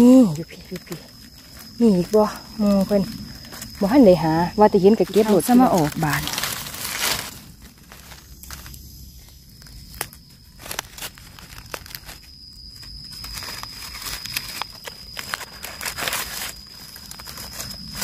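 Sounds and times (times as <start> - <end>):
dry leaves crackling and rustling: 0.0 - 18.0.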